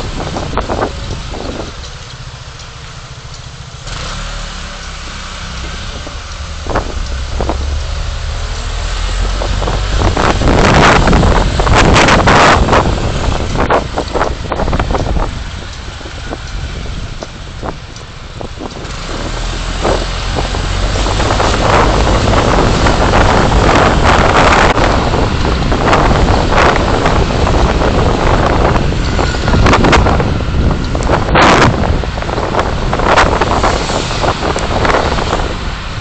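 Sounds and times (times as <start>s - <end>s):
vehicle road and engine noise: 0.0s - 36.0s
wind buffeting microphone: 0.0s - 36.0s.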